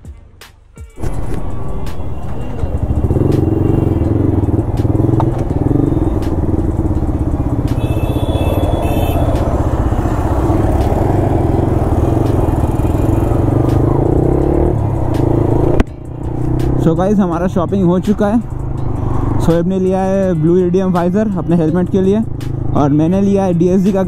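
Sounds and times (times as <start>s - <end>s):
motorcycle engine running: 1.1s - 20.7s.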